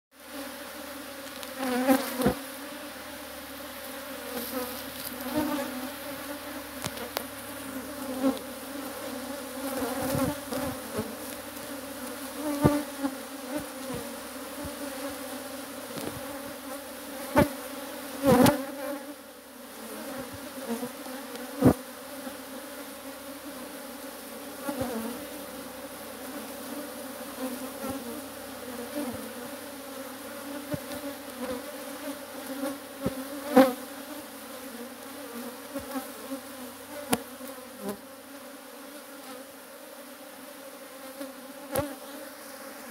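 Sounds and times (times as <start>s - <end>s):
bees buzzing: 0.2s - 42.9s.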